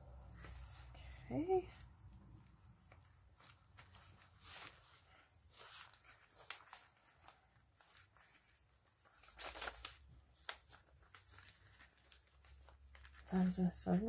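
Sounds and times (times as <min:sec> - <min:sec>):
ribbon rustling: 0:00.0 - 0:14.0.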